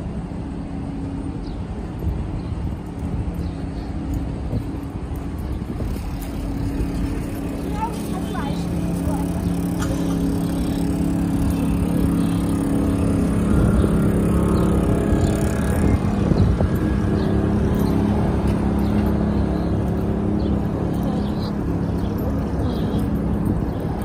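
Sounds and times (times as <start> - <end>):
cars rumbling by: 0.0 - 24.0
traffic engine hum: 0.0 - 24.0.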